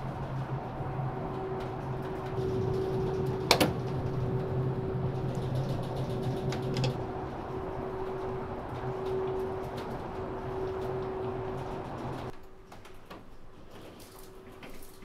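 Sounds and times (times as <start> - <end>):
low machinery hum: 0.0 - 12.5.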